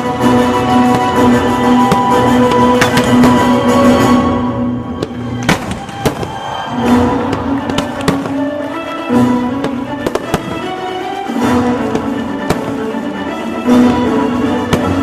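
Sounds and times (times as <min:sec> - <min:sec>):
sharp bangs: 0:00.3 - 0:15.0.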